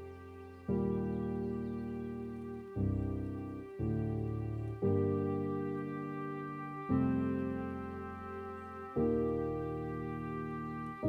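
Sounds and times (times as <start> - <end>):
slow keyboard chords: 0.0 - 11.0.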